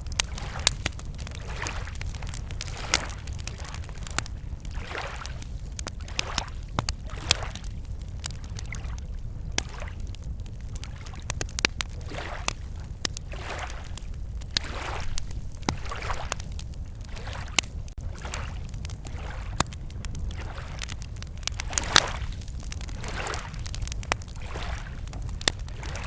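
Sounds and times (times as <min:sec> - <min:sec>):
campfire crackling and popping: 0:00.0 - 0:26.0
lake waves lapping at shore: 0:00.1 - 0:26.0.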